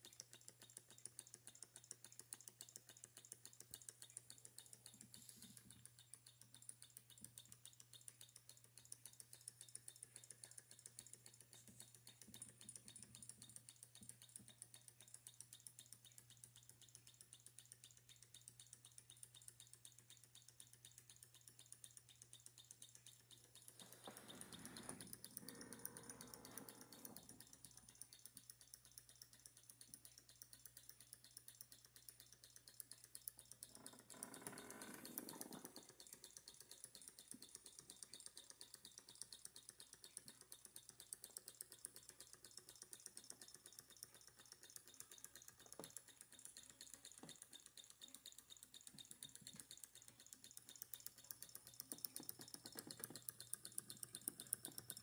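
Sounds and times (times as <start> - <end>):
small engine rapid ticking: 0.0 - 55.0.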